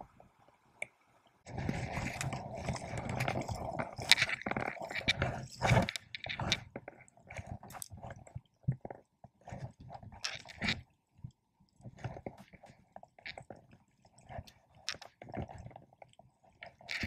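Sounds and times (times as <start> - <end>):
rustling and scraping handling noise: 1.5 - 10.9, 11.8 - 17.0.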